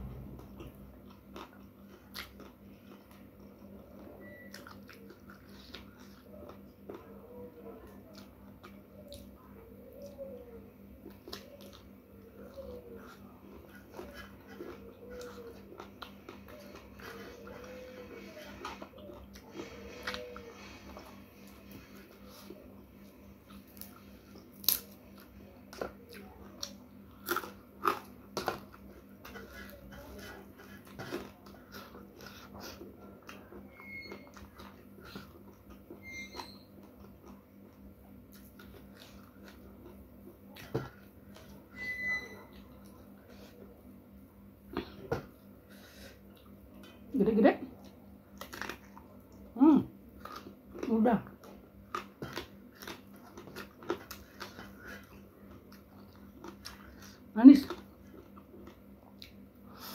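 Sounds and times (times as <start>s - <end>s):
chewing crunchy food: 0.0s - 59.9s
faint steady hum: 0.0s - 59.9s.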